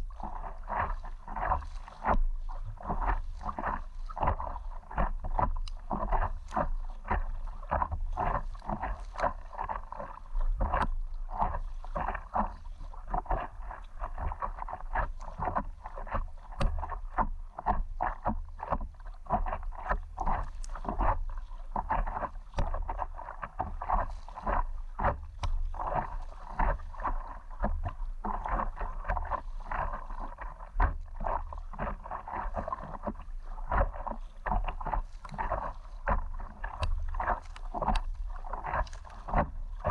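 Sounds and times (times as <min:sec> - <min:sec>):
water splashing against paddleboard: 0:00.0 - 0:39.9.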